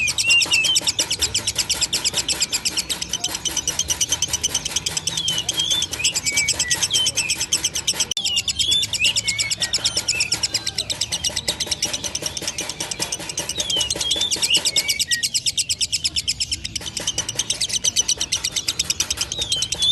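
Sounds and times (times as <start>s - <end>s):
lovebird chattering trill: 0.0s - 19.9s.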